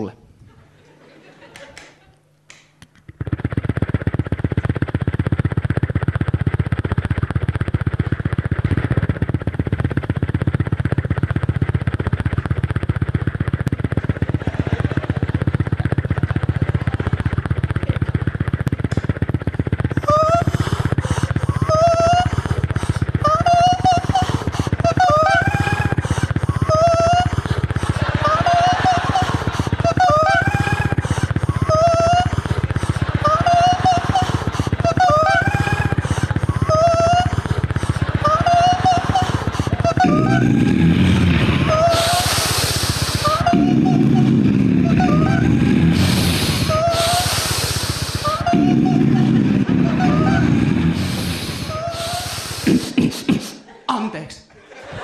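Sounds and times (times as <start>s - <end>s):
man doing tongue trill: 2.9s - 53.8s.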